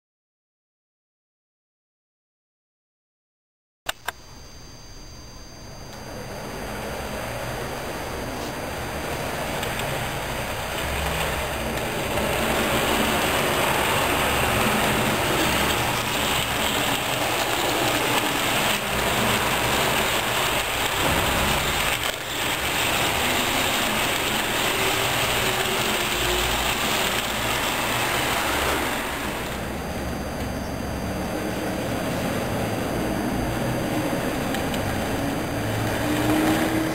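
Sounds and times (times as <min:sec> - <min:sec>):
small locomotive motor: 0:04.0 - 0:36.9
model train rolling on rails: 0:05.9 - 0:36.9.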